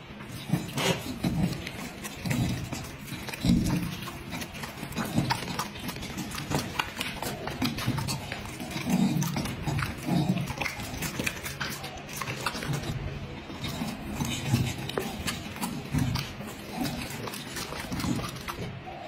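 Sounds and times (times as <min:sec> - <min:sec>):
dog chewing and smacking lips: 0:00.0 - 0:19.0.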